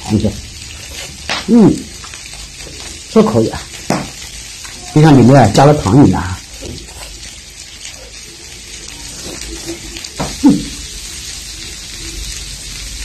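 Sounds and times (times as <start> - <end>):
food sizzling on a grill: 0.0 - 13.0.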